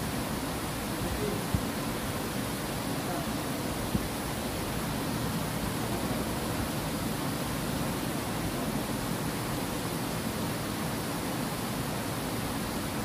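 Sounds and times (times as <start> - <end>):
water rushing over weir: 0.0 - 13.0.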